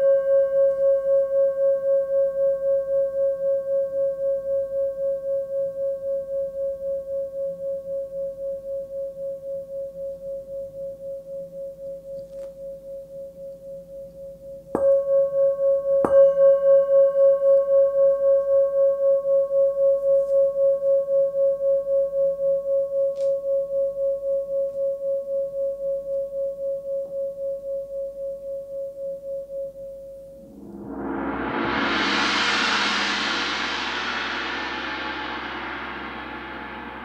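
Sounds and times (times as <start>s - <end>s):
singing bowl ringing: 0.0s - 33.3s.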